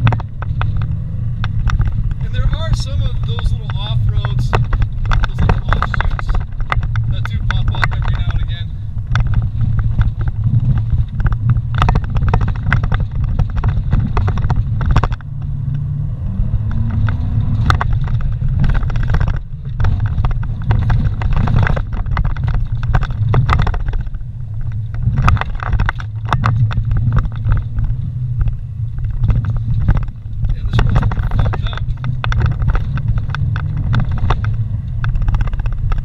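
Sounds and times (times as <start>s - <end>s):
knocks and rattles over rocks: 0.0s - 15.9s, 16.5s - 36.0s
engine and drivetrain rumble: 0.0s - 36.0s.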